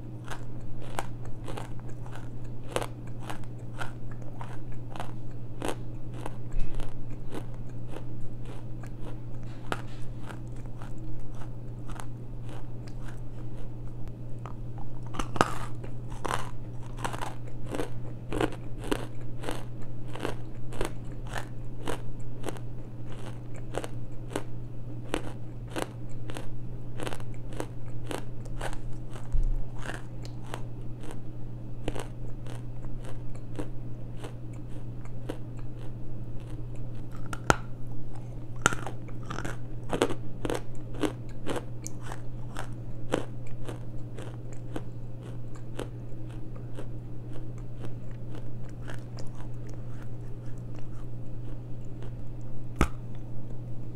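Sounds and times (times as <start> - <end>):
chewing crunchy clay: 0.0 - 53.9.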